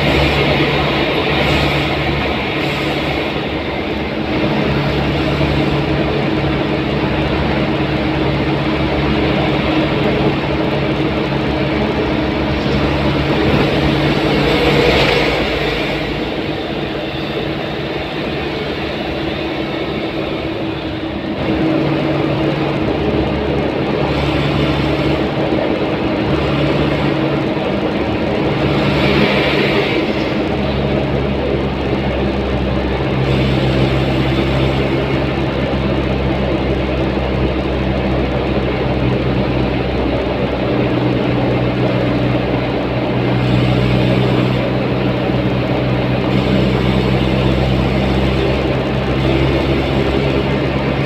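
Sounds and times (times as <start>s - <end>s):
engine drone: 0.0s - 51.0s.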